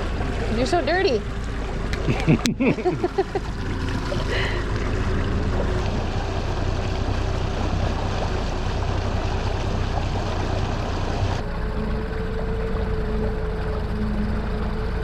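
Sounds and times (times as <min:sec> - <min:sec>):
boat motor hum: 0:00.0 - 0:15.0
water rushing along hull: 0:00.0 - 0:15.0.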